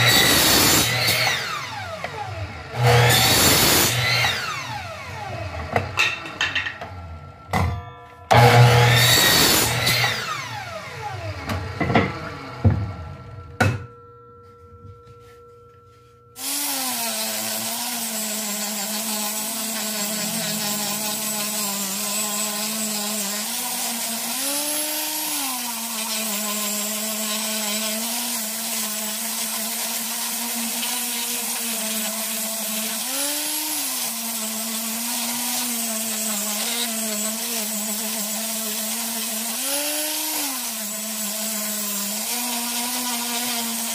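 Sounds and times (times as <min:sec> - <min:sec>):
angle grinder sanding wood: 0:00.0 - 0:06.4, 0:08.3 - 0:12.8, 0:15.2 - 0:43.9.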